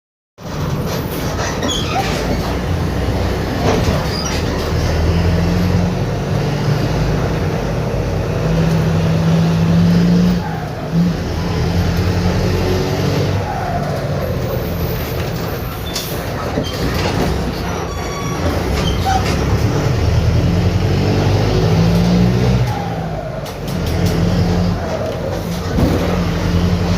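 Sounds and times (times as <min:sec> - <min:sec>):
bus diesel engine loud exhaust: 0:00.4 - 0:26.9.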